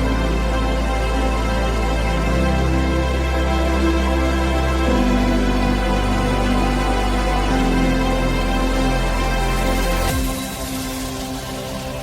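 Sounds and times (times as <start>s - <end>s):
synth chords over bass: 0.0s - 12.0s.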